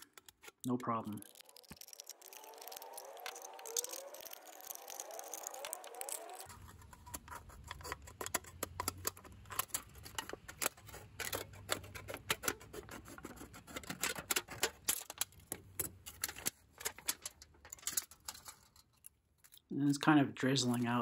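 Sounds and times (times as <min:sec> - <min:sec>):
tin shears snipping can: 0:00.0 - 0:18.4
crinkling metal: 0:00.0 - 0:19.7.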